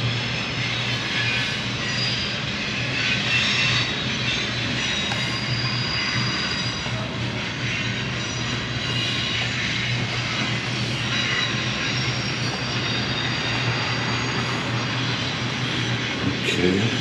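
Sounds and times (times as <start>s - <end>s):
diesel locomotive engine drone: 0.0s - 17.0s.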